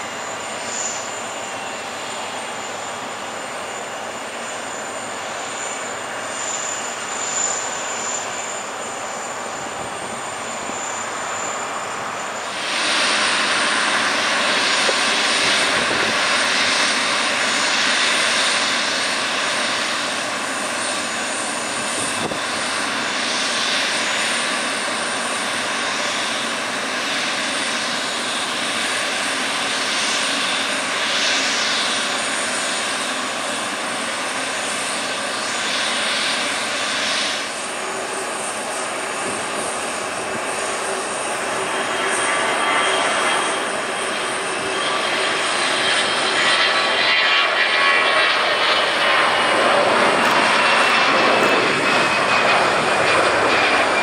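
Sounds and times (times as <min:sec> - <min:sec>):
jet engines hissing: 0:00.0 - 0:54.0.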